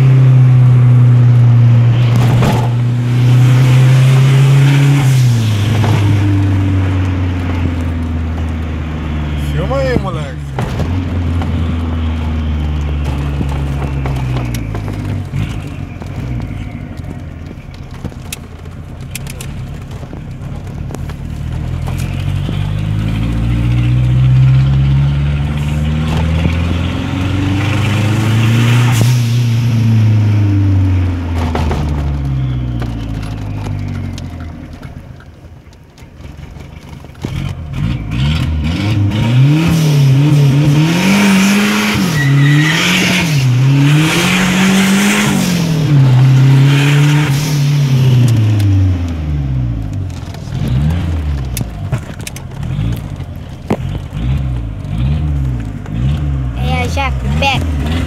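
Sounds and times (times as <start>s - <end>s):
turbocharged car engine from cabin: 0.0s - 35.3s, 36.2s - 58.0s.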